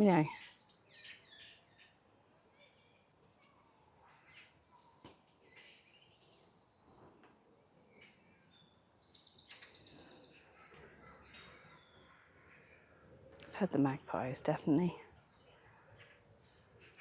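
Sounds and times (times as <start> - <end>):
wild birds calling faintly: 0.1 - 17.0.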